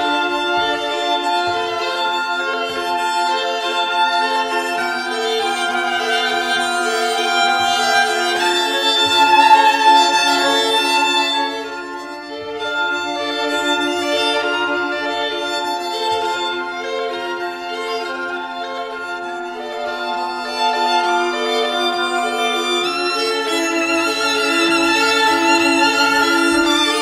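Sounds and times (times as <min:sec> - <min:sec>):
string quartet playing: 0:00.0 - 0:27.0.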